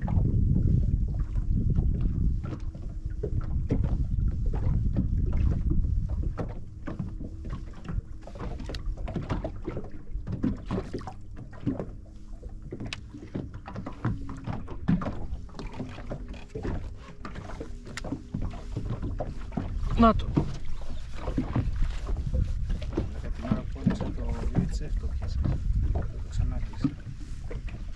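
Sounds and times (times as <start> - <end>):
small waves slapping a hull: 0.0 - 27.9
wind buffeting microphone: 0.0 - 27.9.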